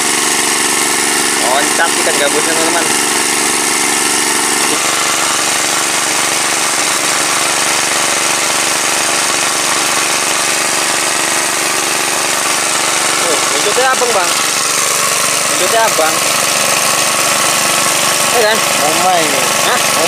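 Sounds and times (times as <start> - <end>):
engine-driven water pump running: 0.0 - 20.0.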